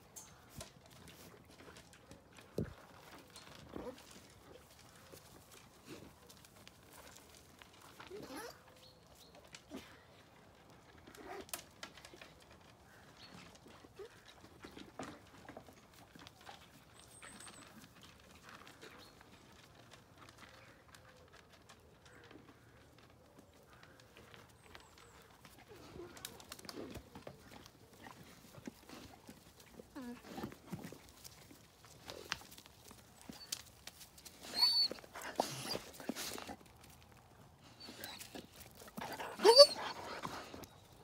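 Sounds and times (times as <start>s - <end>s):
alpacas feeding clicks and rustles: 0.0s - 41.0s.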